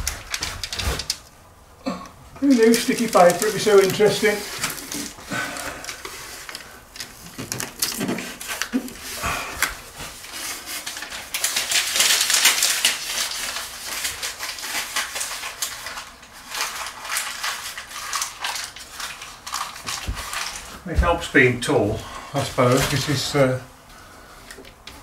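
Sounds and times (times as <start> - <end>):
foil tape crinkling and crackling: 0.0 - 1.4, 2.3 - 23.6.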